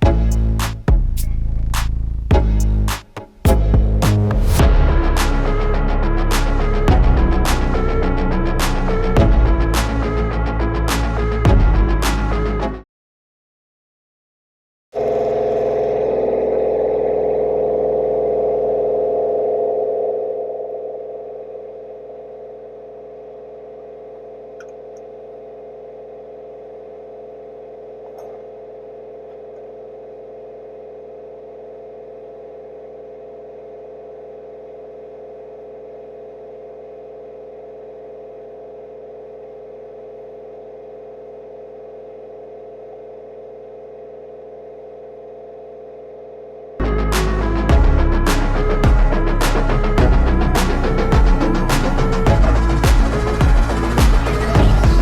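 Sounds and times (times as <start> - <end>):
steady hum: 0.0 - 12.7, 15.0 - 55.0.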